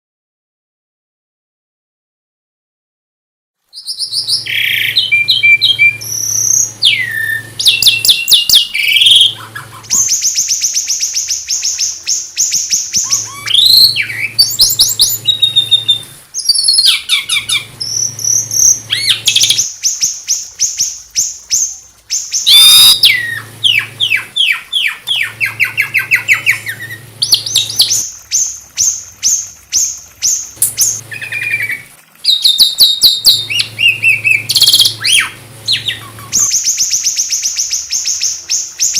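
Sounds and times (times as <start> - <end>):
songbird singing trills: 3.7 - 38.9
low steady hum: 4.1 - 12.1, 13.0 - 38.4.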